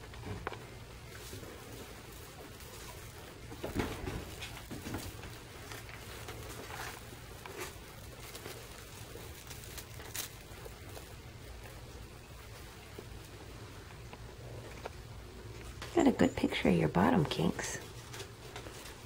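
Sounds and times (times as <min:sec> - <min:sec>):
kittens playing with toys: 0:00.0 - 0:19.0
low steady hum: 0:00.0 - 0:19.0.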